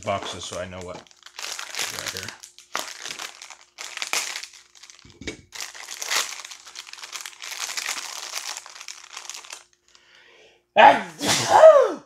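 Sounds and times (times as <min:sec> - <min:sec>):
foil bag crinkling: 0:00.0 - 0:10.2.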